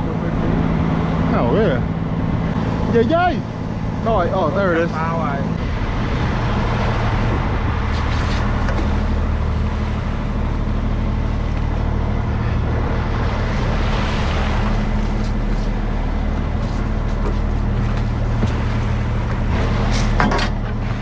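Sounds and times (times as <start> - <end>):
boat engine humming: 0.0 - 21.0
hiss of machinery and water: 2.6 - 21.0.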